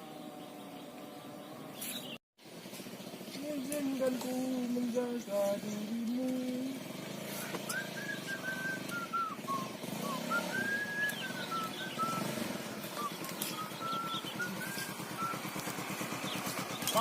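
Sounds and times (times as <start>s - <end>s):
bird chirping: 0.0s - 2.2s, 2.9s - 17.0s
engine running at low revs: 0.0s - 17.0s.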